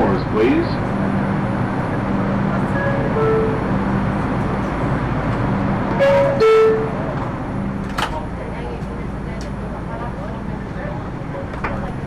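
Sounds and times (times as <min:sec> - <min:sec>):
subway car hum and rumble: 0:00.0 - 0:12.0.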